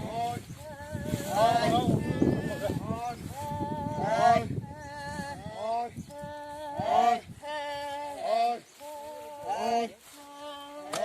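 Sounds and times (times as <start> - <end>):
voices singing slow song: 0.0 - 11.0.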